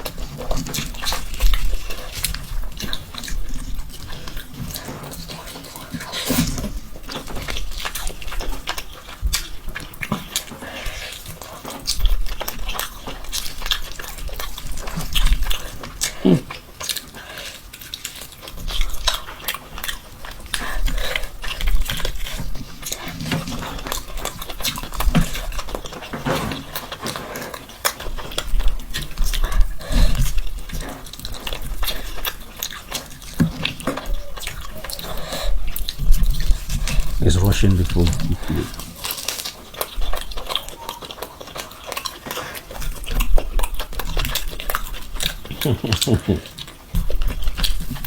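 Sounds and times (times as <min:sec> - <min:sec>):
person chewing and biting: 0:00.0 - 0:48.0.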